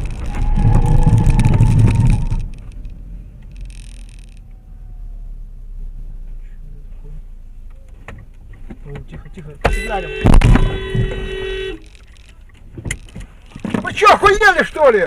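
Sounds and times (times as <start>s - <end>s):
engine and traffic rumble: 0.0s - 15.0s.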